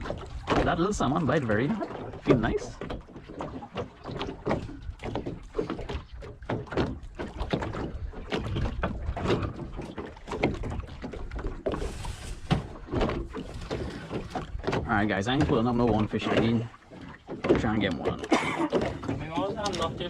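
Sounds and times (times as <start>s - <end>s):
boat gear knocking: 0.0s - 20.0s
water slapping against hull: 0.0s - 20.0s.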